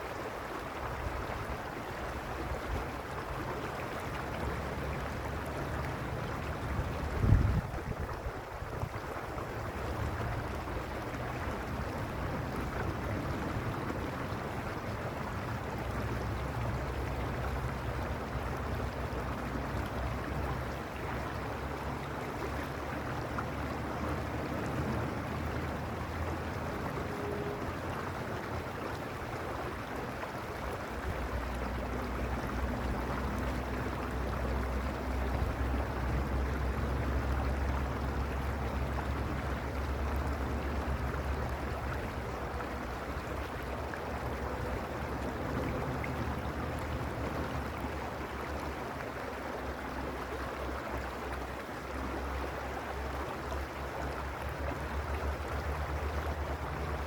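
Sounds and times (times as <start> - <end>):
creek water running: 0.0 - 57.0.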